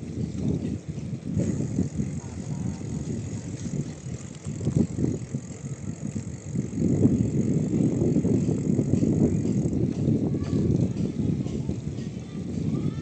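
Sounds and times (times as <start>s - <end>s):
bicycle riding rumble: 0.0s - 13.0s
wind buffeting microphone: 0.0s - 13.0s.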